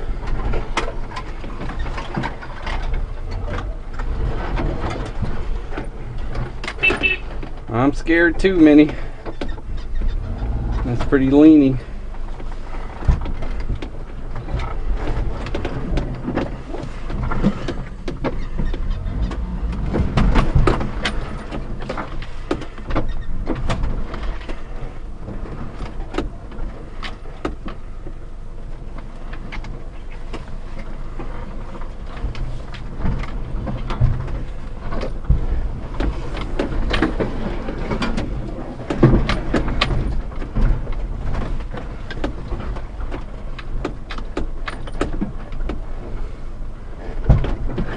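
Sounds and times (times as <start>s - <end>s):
truck body rattling and knocking: 0.0s - 46.4s, 47.1s - 47.9s
truck engine running at low speed: 0.0s - 47.9s.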